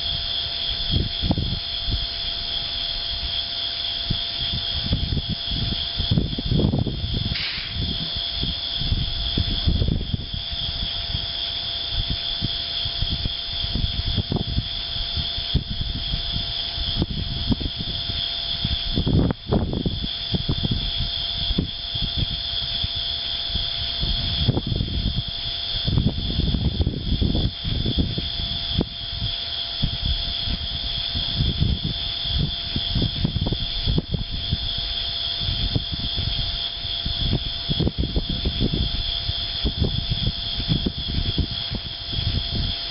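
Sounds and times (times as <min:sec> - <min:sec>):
high-pitched hiss: 0:00.0 - 0:42.9
steady high-pitched drone: 0:00.0 - 0:42.9
wind buffeting microphone: 0:00.0 - 0:42.9.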